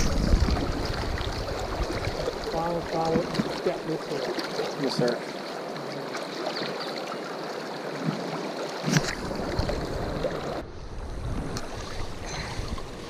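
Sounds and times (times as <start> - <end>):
river water rushing: 0.0 - 10.6.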